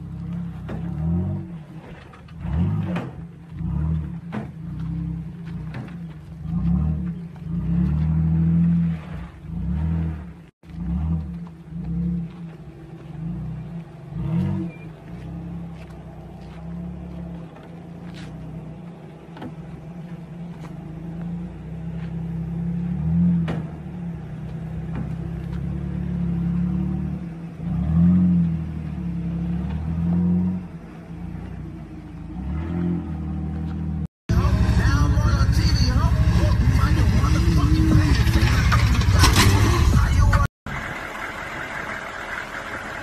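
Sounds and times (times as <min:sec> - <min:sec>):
engine revving: 0:00.0 - 0:43.0.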